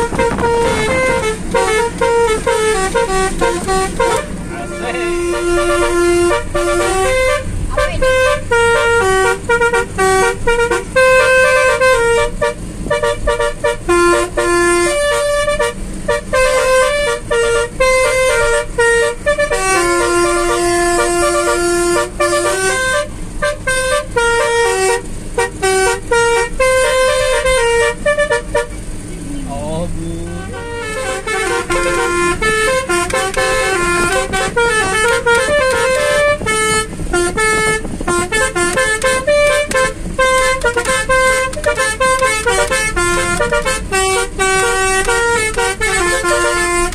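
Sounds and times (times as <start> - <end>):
musical air horn tune: 0.0 - 28.8, 30.1 - 46.9
low engine hum: 0.0 - 46.9.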